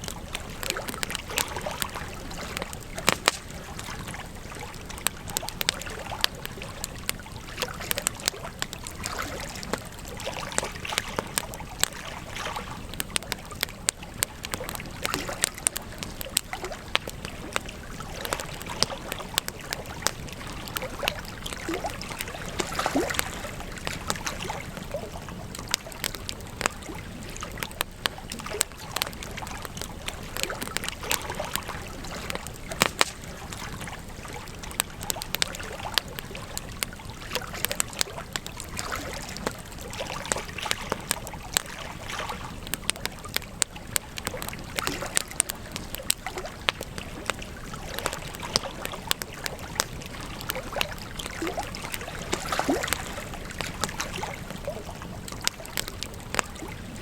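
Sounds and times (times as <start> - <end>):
burning wood crackling and popping: 0.0 - 57.0
rush of flame: 0.0 - 57.0.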